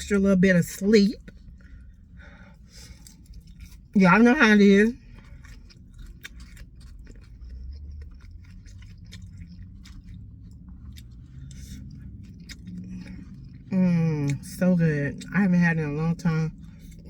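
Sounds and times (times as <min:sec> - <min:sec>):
person chewing food: 0:00.7 - 0:17.0.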